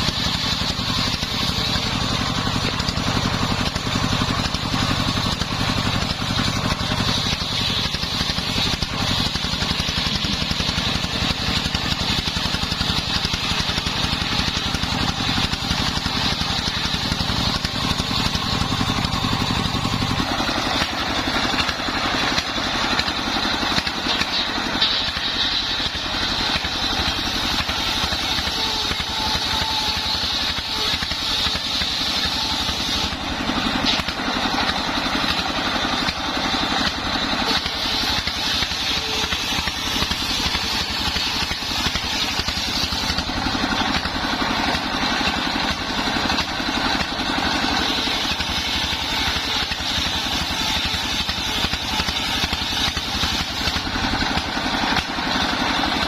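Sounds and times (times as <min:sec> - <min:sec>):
higher noisy sound: 0:00.0 - 0:56.0
saw rig engine running: 0:00.0 - 0:56.0.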